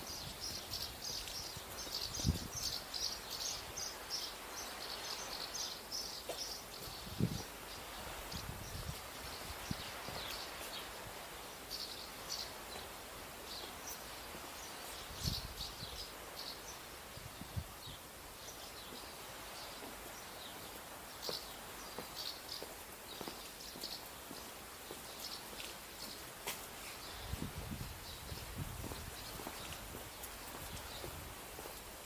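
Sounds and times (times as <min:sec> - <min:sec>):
small birds chirping: 0:00.0 - 0:32.0
steady background hiss: 0:00.0 - 0:32.0.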